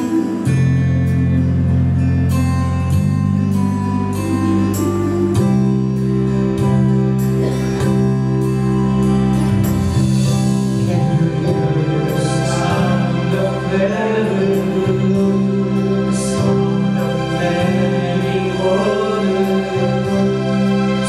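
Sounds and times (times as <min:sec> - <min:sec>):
slow worship music on keyboard: 0:00.0 - 0:21.0.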